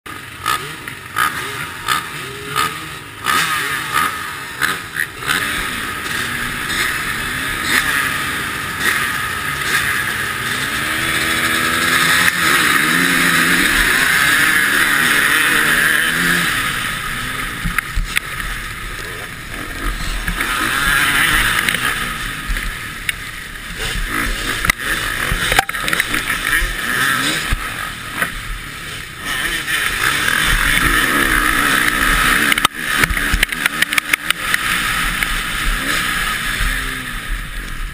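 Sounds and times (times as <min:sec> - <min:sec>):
motocross engines revving: 0:00.1 - 0:37.9
motorbike accelerating: 0:00.1 - 0:37.9.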